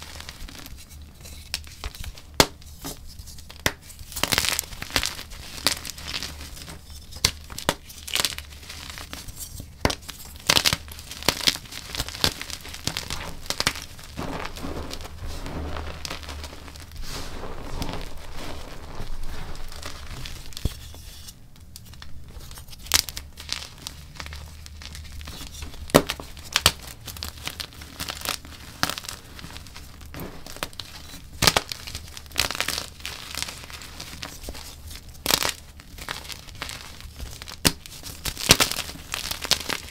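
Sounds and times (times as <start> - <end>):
chalk crunching and snapping: 0.0 - 39.9
powdery crumbling rustle: 0.0 - 39.9.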